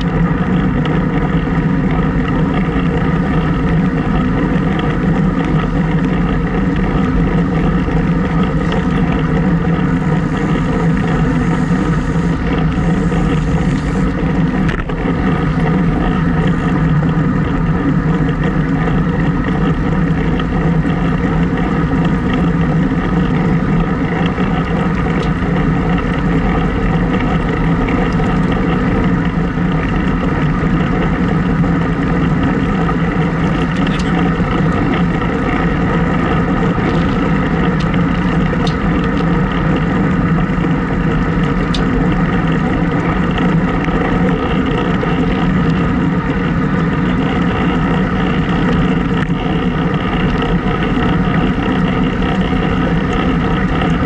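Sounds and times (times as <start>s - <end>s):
road noise: 0.0s - 54.0s
wind rushing over microphone: 0.0s - 54.0s.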